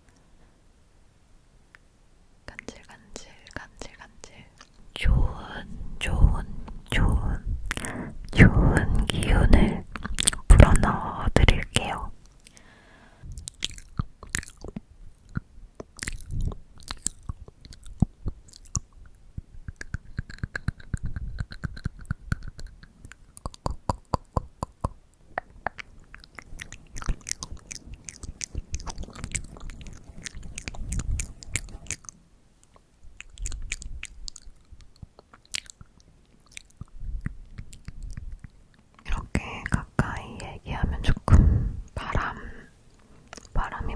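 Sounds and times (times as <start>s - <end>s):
lip and tongue clicks: 4.3s - 12.7s, 13.3s - 42.3s, 43.3s - 43.9s.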